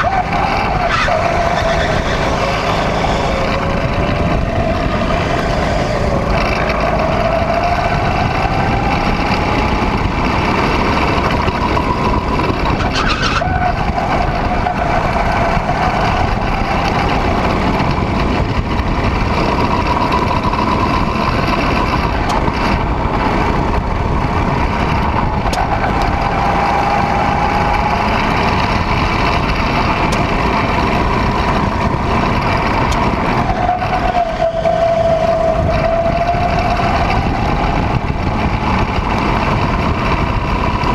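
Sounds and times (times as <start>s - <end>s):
go-kart engine running: 0.0s - 40.9s.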